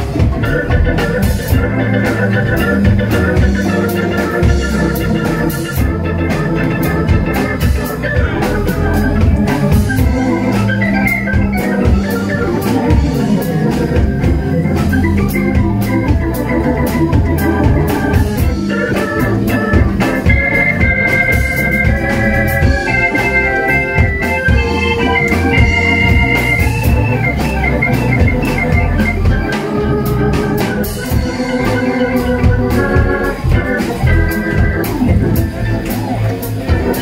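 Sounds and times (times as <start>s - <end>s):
bass and drums: 0.0s - 37.0s
organ playing chords: 0.0s - 37.0s.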